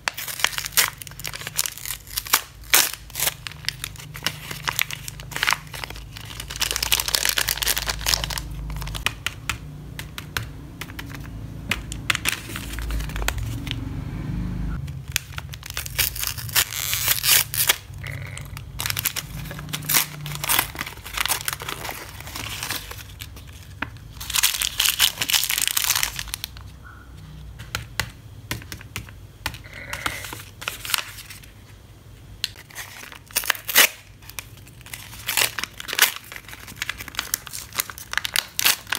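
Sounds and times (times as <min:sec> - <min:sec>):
plastic wrappers crinkling and tearing: 0:00.0 - 0:09.1, 0:10.9 - 0:13.7, 0:14.9 - 0:26.8, 0:29.7 - 0:31.6, 0:32.4 - 0:38.9.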